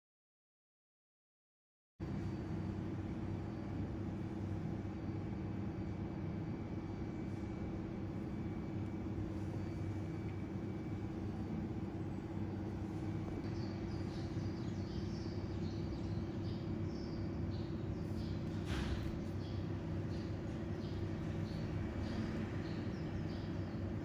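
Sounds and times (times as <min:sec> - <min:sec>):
steady low hum: 0:02.0 - 0:24.0.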